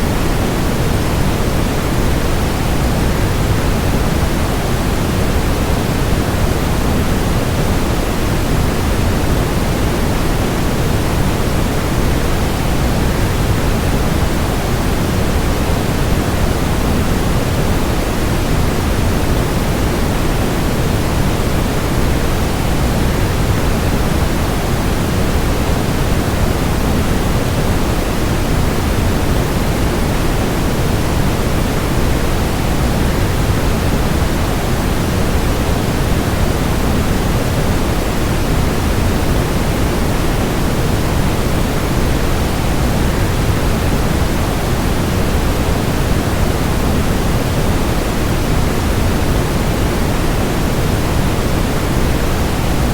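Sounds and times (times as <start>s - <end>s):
white noise: 0.0s - 52.9s.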